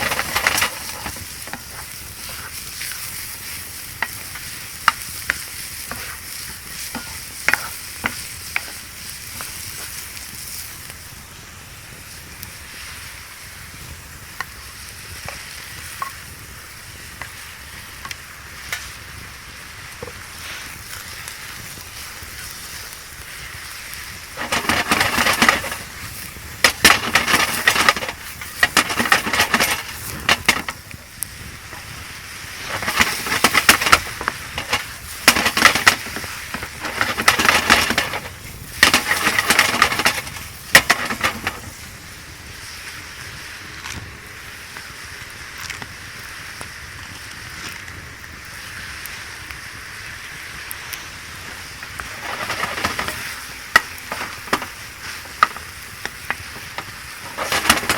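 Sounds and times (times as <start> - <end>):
crackly scraping of stirring: 0.0 - 11.2, 12.0 - 57.9
food frying in a pan: 0.0 - 57.9.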